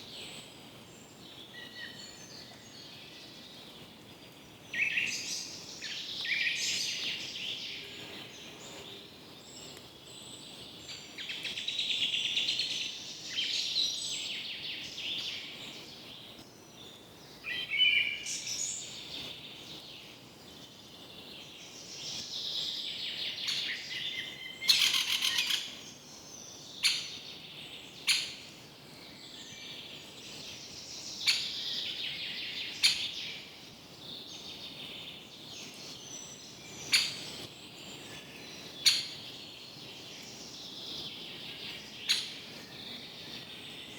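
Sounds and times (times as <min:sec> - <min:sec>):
birds calling and chirping: 0:01.1 - 0:43.9.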